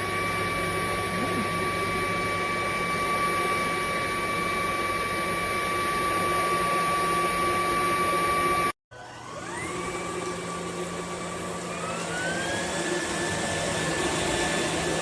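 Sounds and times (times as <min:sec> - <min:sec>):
stick vacuum motor whine: 0:00.0 - 0:15.0.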